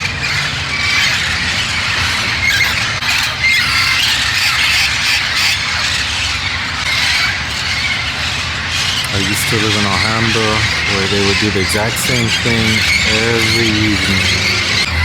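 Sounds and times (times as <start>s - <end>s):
parrots squawking and screeching: 0.0s - 15.0s.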